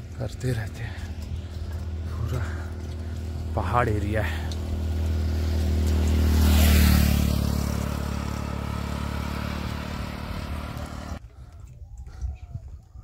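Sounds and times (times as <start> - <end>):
motorcycle passing by: 0.4 - 11.2.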